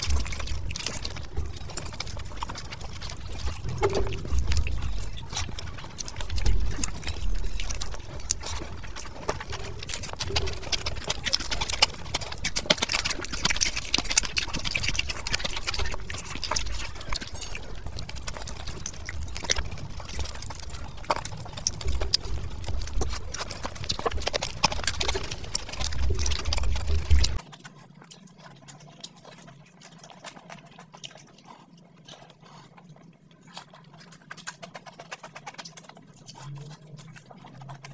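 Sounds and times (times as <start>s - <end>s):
chewing and lip smacking: 0.0s - 37.9s.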